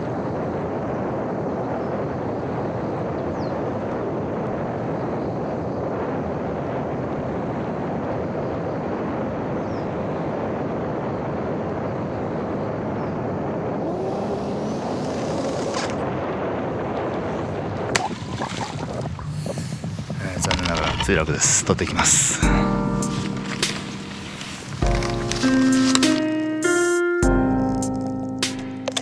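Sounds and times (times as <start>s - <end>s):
rushing drone of airflow: 0.0s - 27.1s.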